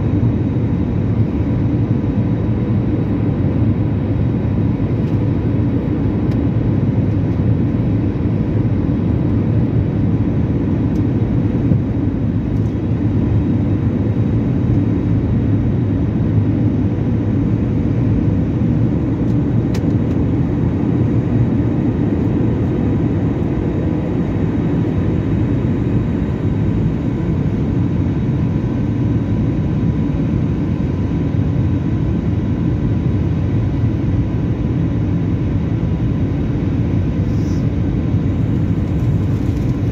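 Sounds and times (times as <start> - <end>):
jet engines in airplane cabin: 0.0 - 39.9.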